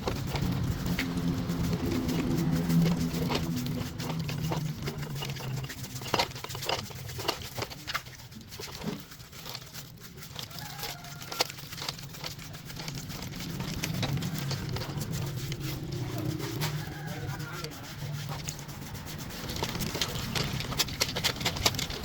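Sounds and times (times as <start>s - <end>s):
steady low hum: 0.0s - 8.3s, 11.9s - 22.0s
sharp clicks and knocks: 0.0s - 16.8s, 18.2s - 22.0s.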